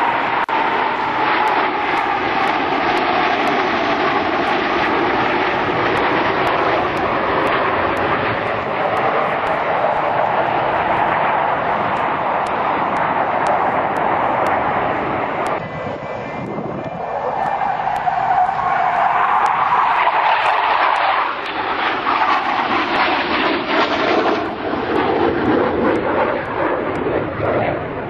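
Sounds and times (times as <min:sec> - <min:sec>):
jet engines roaring past: 0:00.0 - 0:28.0.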